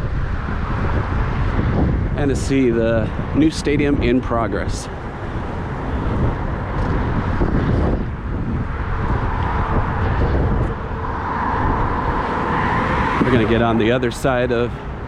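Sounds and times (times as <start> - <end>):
freeway traffic noise: 0.0 - 15.0
passing vehicle hum: 0.0 - 15.0
wind buffeting microphone: 0.0 - 15.0.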